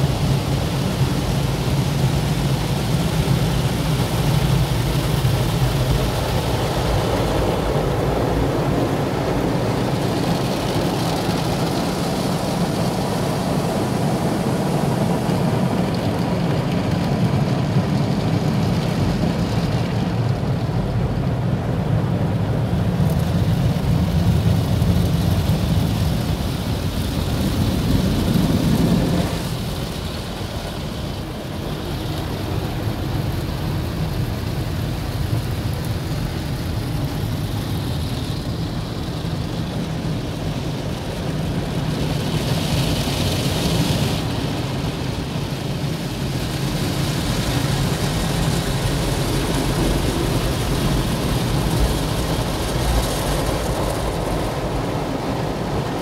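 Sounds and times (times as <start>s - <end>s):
water spraying on car: 0.0s - 56.0s.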